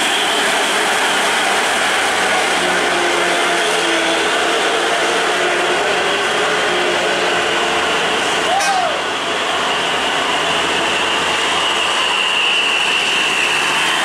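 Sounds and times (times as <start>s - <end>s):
heavy diesel engines under load: 0.0s - 14.0s.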